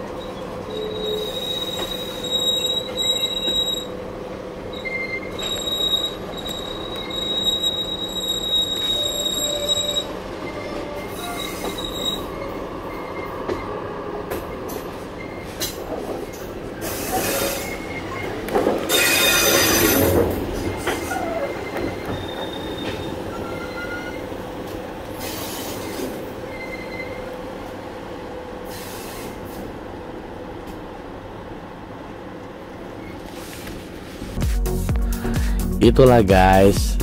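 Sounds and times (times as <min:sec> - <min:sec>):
train wheels squealing on rails: 0:00.0 - 0:27.8, 0:28.4 - 0:29.8, 0:32.7 - 0:34.0
train carriage rumble: 0:00.0 - 0:34.6.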